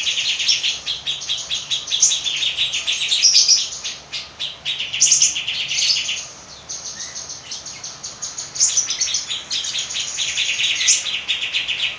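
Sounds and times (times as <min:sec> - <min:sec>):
songbird chattering trills: 0:00.0 - 0:11.9.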